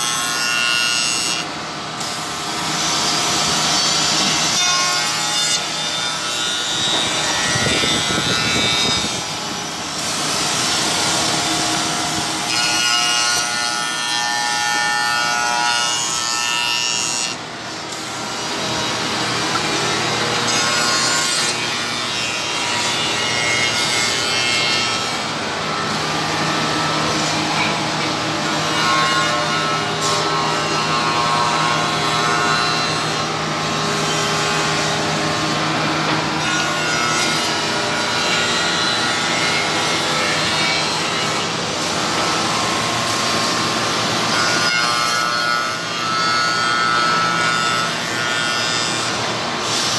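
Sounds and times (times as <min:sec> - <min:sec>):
woodworking machine cutting wood: 0:00.0 - 0:49.9.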